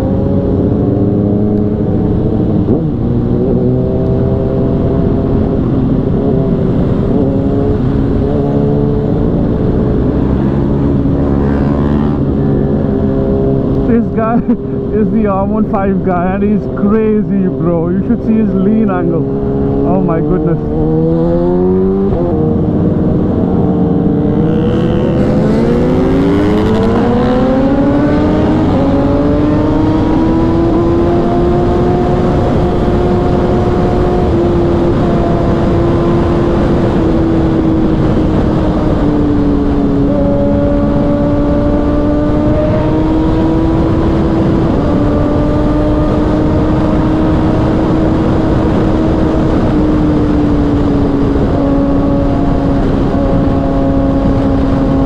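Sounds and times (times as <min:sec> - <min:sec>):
motorcycle engine revving: 0:00.0 - 0:14.9, 0:16.0 - 0:55.0.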